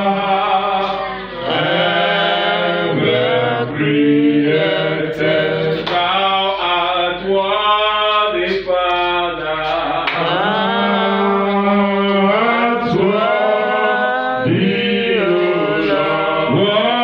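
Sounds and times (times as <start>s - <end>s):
man singing through loudspeaker: 0.0s - 17.0s.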